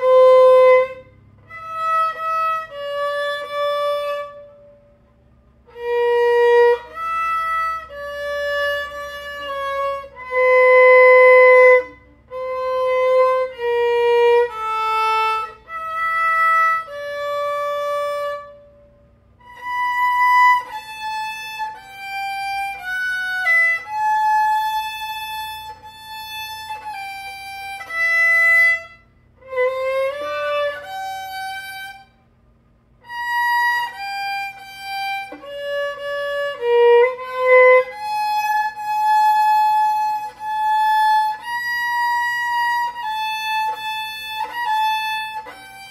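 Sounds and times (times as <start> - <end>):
solo violin bowed notes: 0.0 - 45.9.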